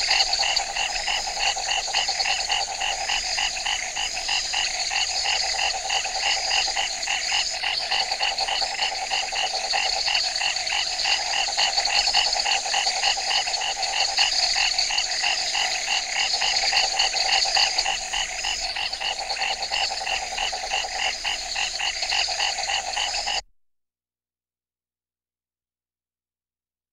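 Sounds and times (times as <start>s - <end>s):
frogs calling: 0.0s - 23.4s.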